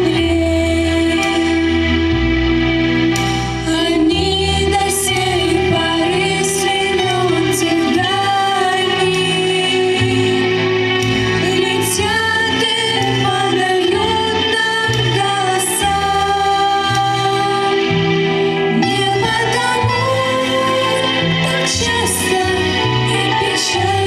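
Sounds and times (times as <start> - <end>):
woman singing: 0.0 - 1.8, 3.6 - 10.6, 11.4 - 18.0, 18.7 - 24.0
instrumental accompaniment with bass: 0.0 - 24.0.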